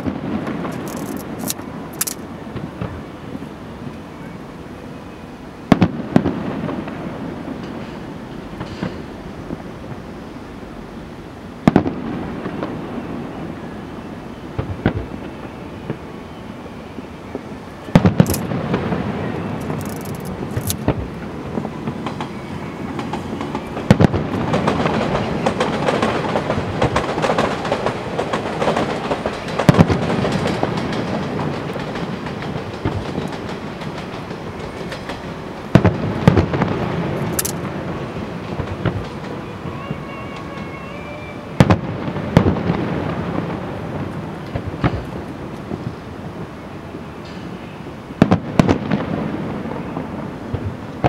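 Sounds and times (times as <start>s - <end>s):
fireworks bursting with booms: 0.0s - 3.8s, 5.6s - 10.1s, 11.6s - 16.2s, 17.3s - 40.8s, 41.4s - 47.0s, 48.2s - 51.0s
continuous rumble: 0.0s - 47.6s.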